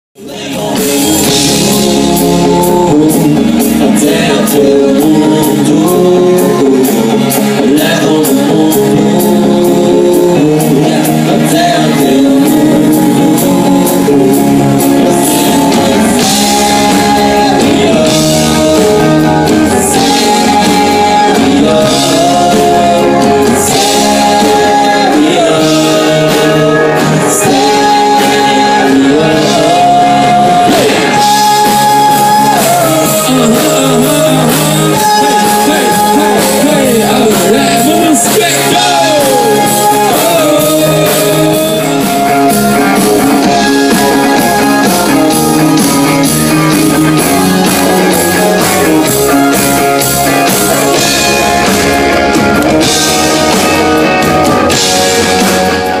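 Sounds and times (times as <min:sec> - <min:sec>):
drums: 0:00.2 - 0:56.0
electric guitars: 0:00.2 - 0:56.0
keyboard: 0:00.2 - 0:56.0
singer: 0:00.2 - 0:56.0.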